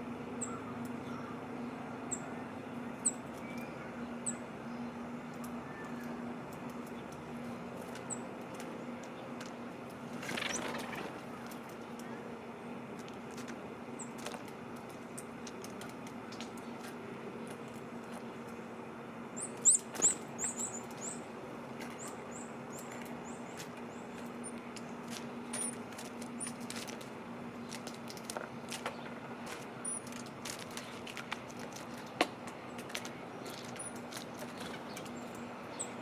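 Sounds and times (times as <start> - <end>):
small birds chirping: 0.3 - 12.8, 14.0 - 36.0.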